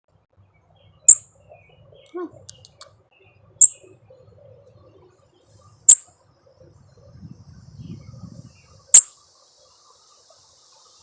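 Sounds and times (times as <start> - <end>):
bird chirping: 0.4 - 10.4.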